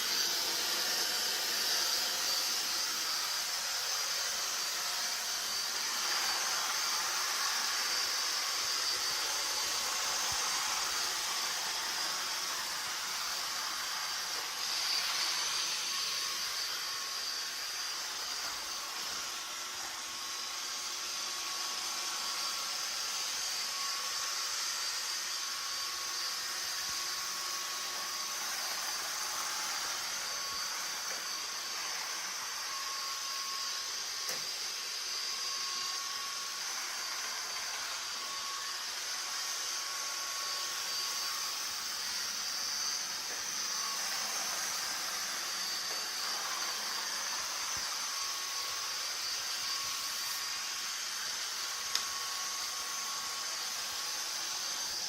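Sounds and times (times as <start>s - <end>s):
robot vacuum cleaner whirring: 0.0s - 55.0s.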